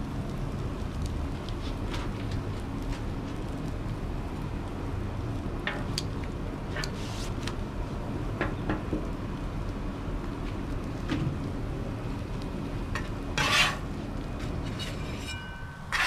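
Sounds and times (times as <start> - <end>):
food sizzling on a griddle: 0.0 - 16.0.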